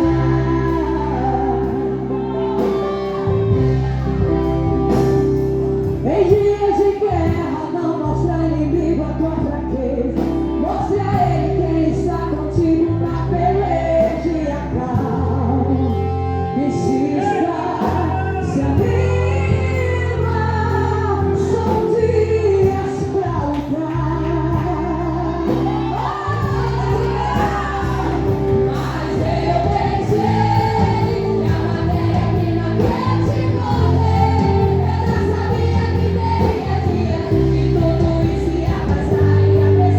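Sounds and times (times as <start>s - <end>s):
held bass notes: 0.0s - 39.9s
lead singer: 0.0s - 39.9s
worship band playing: 0.0s - 39.9s.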